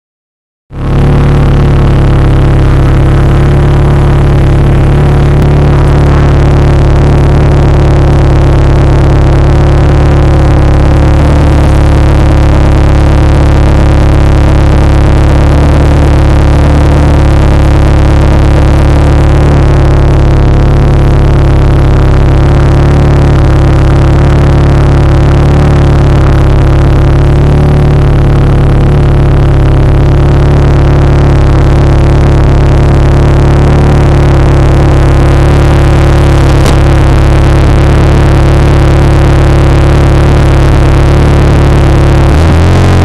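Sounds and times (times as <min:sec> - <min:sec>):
car engine idling: 0:00.7 - 0:43.0.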